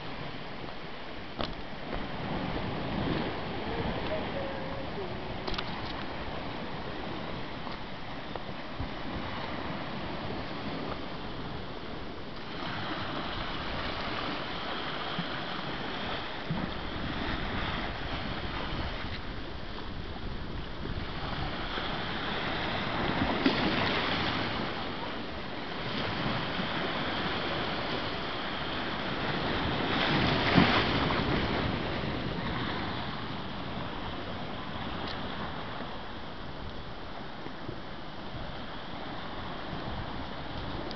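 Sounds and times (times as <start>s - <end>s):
sea surf on rocky shore: 0.0s - 40.9s.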